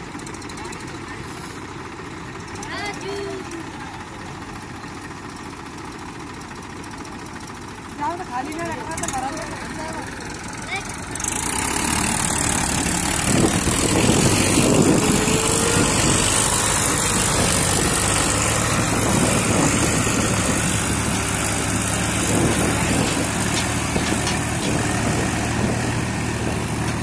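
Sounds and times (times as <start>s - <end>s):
diesel tractor engines under load: 0.0s - 27.0s.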